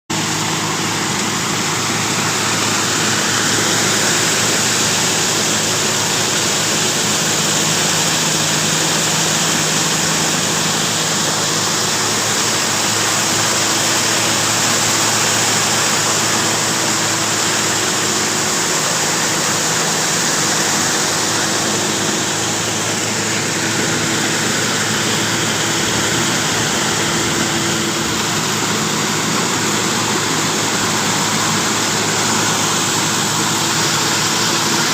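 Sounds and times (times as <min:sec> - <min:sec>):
loud rushing noise: 0:00.1 - 0:34.9
machinery engine humming: 0:00.1 - 0:34.9.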